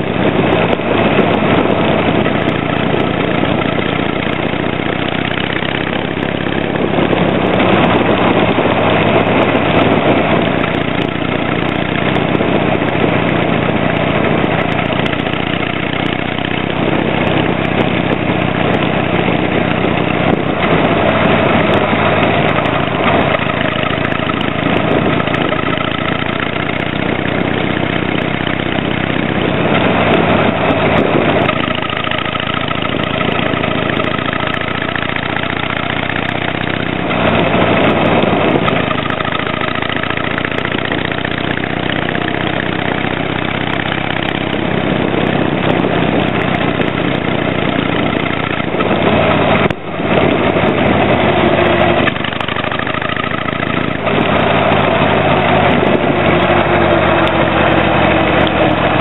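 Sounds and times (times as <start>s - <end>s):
motorcycle exhaust: 0.0s - 59.0s.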